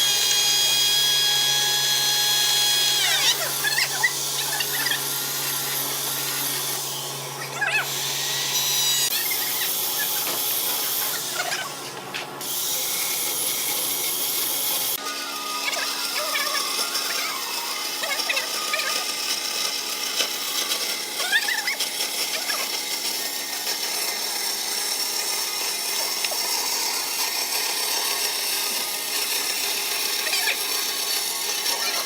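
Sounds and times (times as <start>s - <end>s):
power tool running: 0.0s - 32.0s.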